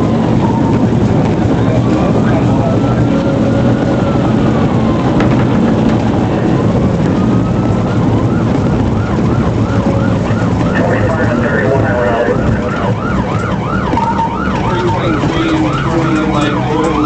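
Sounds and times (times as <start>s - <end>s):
car engine and road noise: 0.0s - 17.0s
police siren wailing and yelping: 0.0s - 17.0s.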